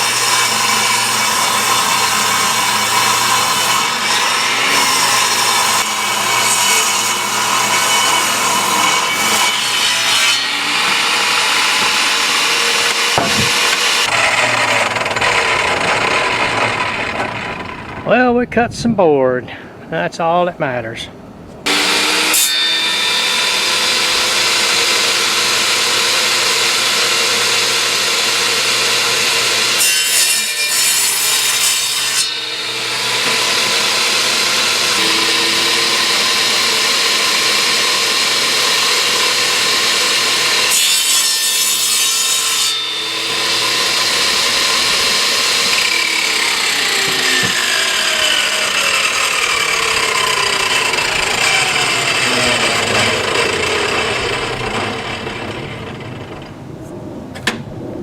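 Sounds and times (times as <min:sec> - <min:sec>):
saw cutting through board: 0:00.0 - 0:18.0, 0:21.6 - 0:56.5
table saw whine: 0:00.0 - 0:18.0, 0:21.6 - 0:56.6.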